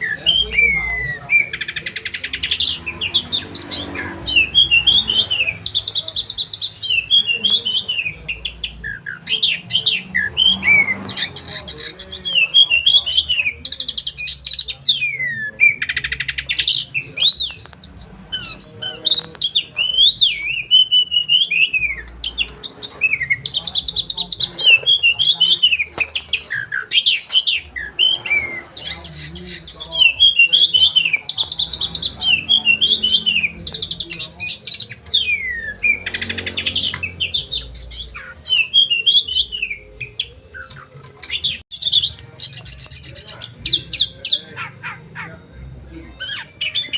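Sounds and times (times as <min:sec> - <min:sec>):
songbird singing with trills: 0:00.0 - 0:44.7.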